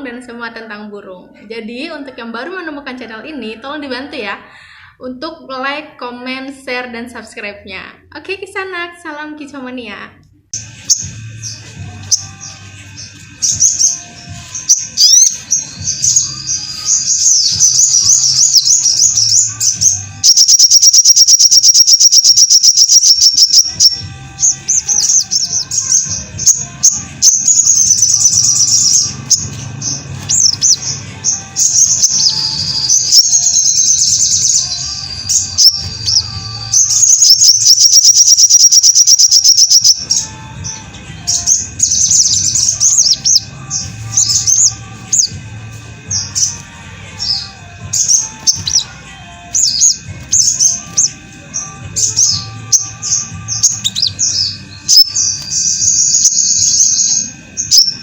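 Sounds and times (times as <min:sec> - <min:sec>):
songbird chirping and trilling: 0:10.6 - 0:58.0.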